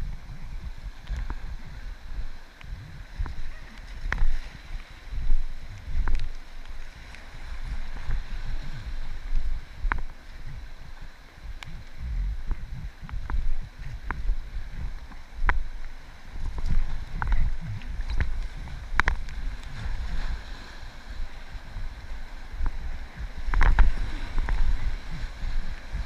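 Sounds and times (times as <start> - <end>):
river water splashing: 0.0 - 26.0
wind rumble on microphone: 0.0 - 26.0.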